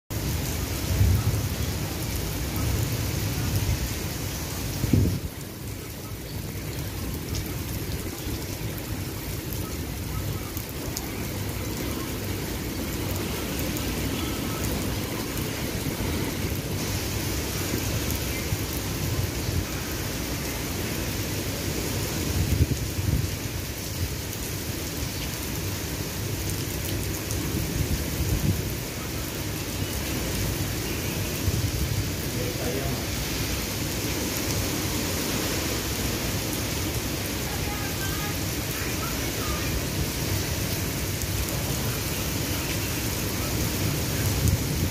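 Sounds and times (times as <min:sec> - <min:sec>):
steady rain falling: 0:00.1 - 0:44.9.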